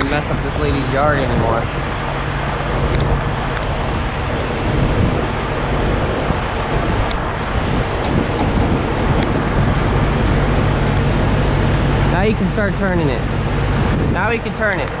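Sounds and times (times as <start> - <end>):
diesel truck engines running: 0.0 - 15.0
wind rumble on microphone: 0.0 - 15.0.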